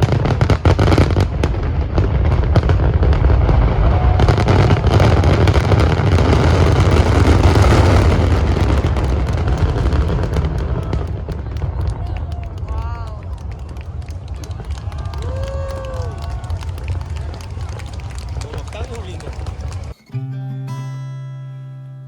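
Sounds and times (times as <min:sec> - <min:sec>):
fireworks cracks and booms: 0:00.0 - 0:20.0
deep rumble: 0:01.2 - 0:19.9.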